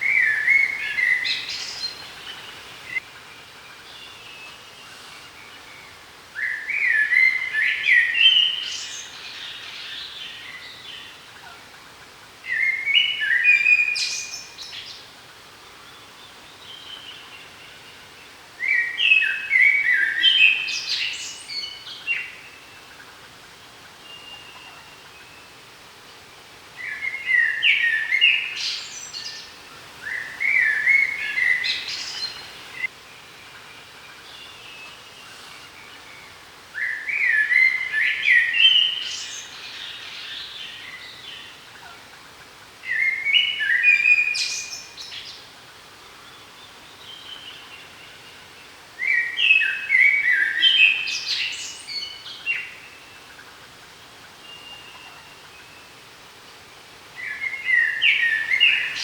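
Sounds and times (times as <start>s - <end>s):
songbird singing: 0.0s - 11.7s, 12.4s - 59.0s.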